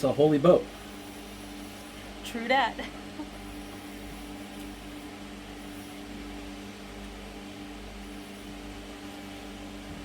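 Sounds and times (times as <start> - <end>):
electric fans humming: 0.0 - 10.0.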